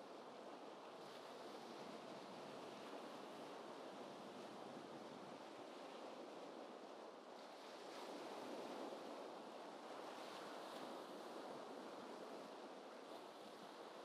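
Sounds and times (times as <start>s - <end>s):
gentle ocean waves: 0.0s - 14.0s.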